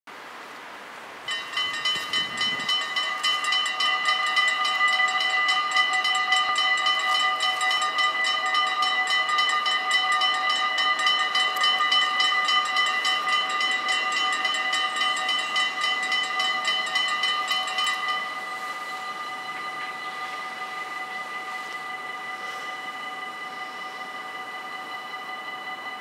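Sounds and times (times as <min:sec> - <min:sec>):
level crossing bells ringing: 0:01.3 - 0:26.0.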